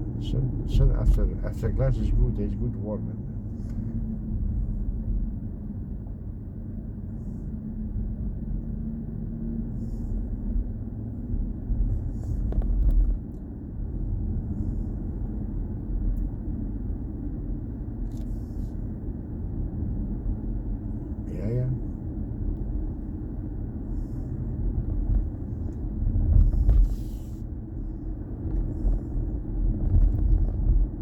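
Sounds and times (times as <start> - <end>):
road and tyre rumble: 0.0 - 31.0.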